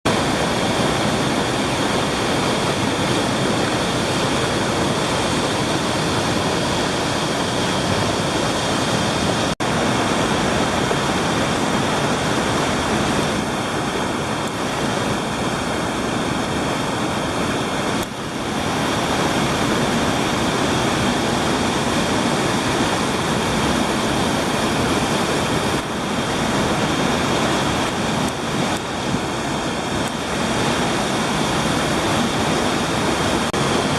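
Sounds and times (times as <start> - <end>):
whitewater rushing: 0.1 - 33.9.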